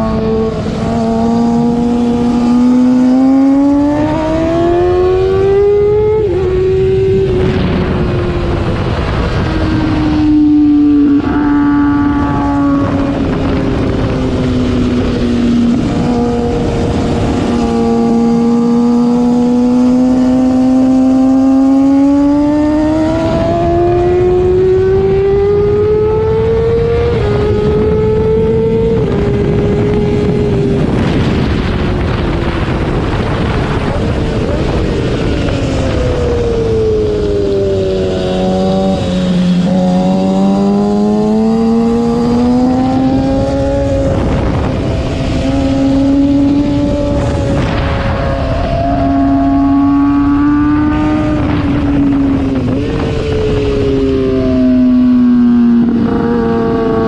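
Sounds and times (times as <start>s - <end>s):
motorcycle engine at full throttle: 0.0s - 57.0s
wind rush: 0.0s - 57.0s.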